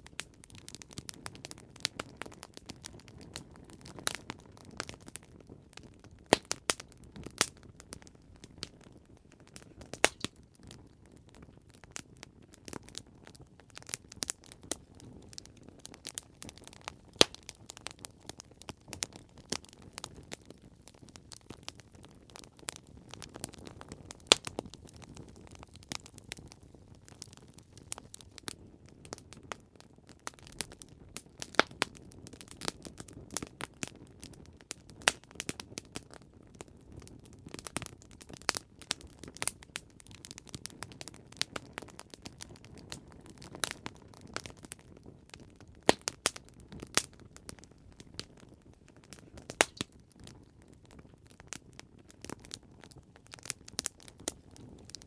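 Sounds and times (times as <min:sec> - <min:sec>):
burning wood popping: 0:00.0 - 0:55.0
low rumble of flames: 0:00.0 - 0:55.0.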